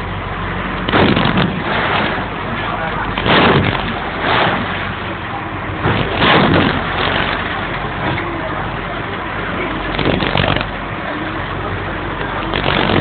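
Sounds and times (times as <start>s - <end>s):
ferry engine drone: 0.0s - 13.0s
loud rushing noise: 0.0s - 13.0s.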